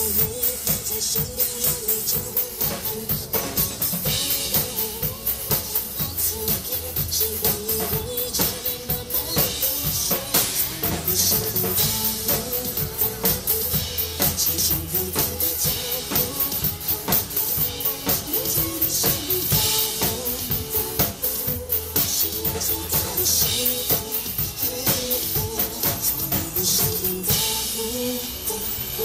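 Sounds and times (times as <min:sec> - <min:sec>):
drum kit playing a beat: 0:00.0 - 0:29.0
pop band backing track: 0:00.0 - 0:29.0.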